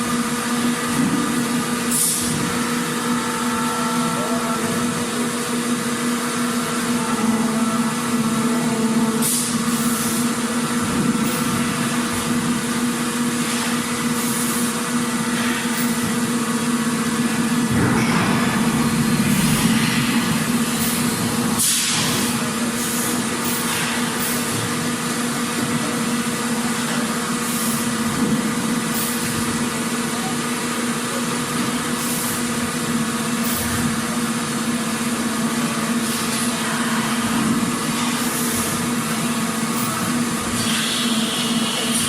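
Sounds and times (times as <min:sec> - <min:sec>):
factory machinery humming: 0:00.0 - 0:42.0.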